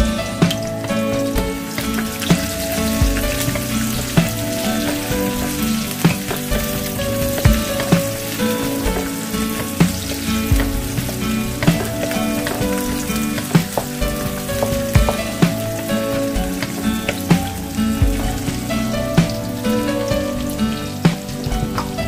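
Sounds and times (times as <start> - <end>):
onion sizzling in a wok: 0.0 - 22.0.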